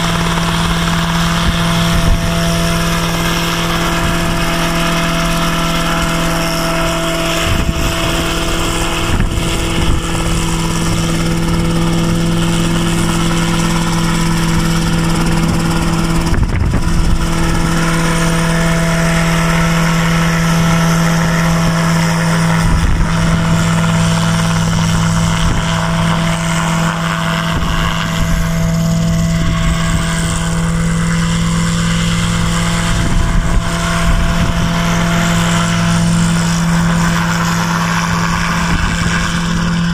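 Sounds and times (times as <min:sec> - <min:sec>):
helicopter engine and rotor hum: 0:00.0 - 0:39.9.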